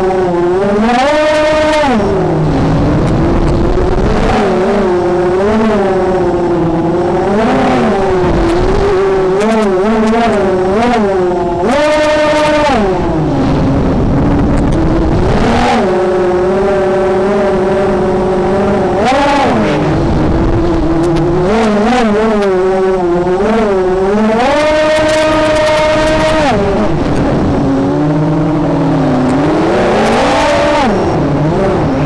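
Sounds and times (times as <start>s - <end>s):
racing drone motors whining: 0.0s - 32.0s.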